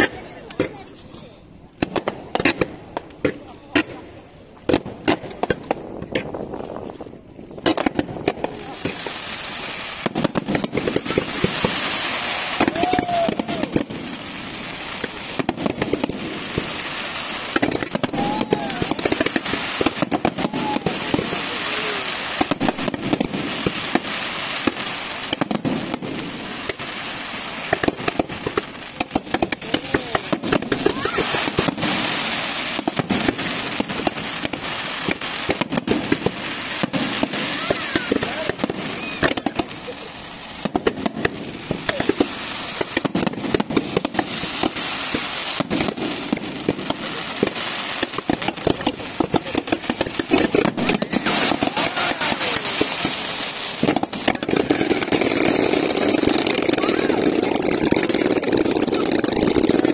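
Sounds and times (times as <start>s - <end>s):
people's voices: 0.0s - 27.0s, 27.7s - 59.9s
fireworks bangs and crackles: 0.0s - 59.9s.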